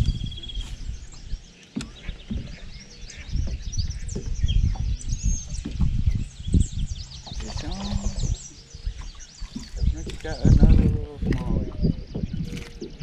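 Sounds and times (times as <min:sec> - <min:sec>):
low rumbling and thumps: 0:00.0 - 0:13.0
songbirds chirping: 0:00.0 - 0:13.0.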